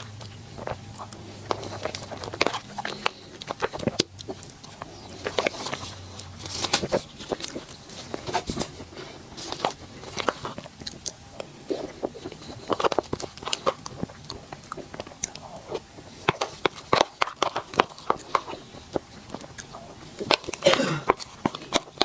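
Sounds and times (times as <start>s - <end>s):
chewing dessert: 0.0s - 22.0s
crisp crunches: 0.0s - 22.0s.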